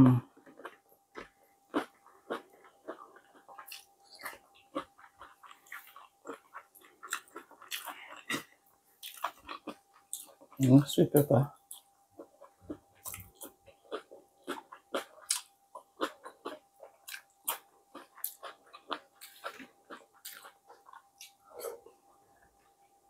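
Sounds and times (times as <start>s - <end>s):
person chewing: 0.2s - 10.8s, 11.6s - 22.8s.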